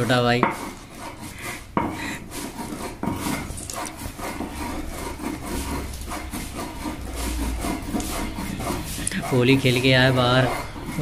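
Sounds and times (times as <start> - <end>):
stone scraping on wooden board: 0.0 - 11.0.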